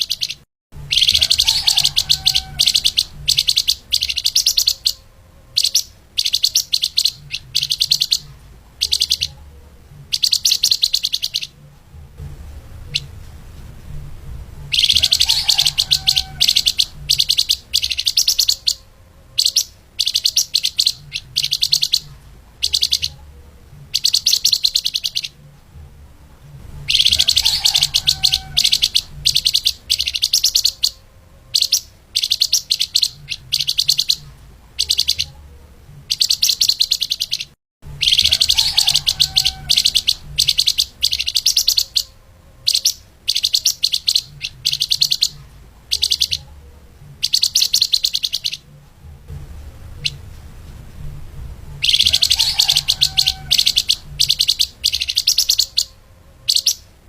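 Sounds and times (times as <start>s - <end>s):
songbird chattering: 0.0s - 11.7s, 12.8s - 13.2s, 14.7s - 25.5s, 26.8s - 48.7s, 51.8s - 57.0s
faint low hum: 0.0s - 57.0s.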